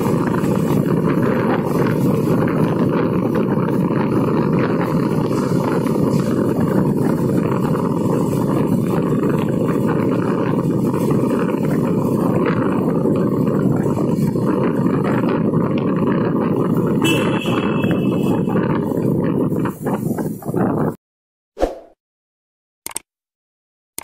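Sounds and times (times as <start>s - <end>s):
vehicle driving through tunnel: 0.0s - 20.6s.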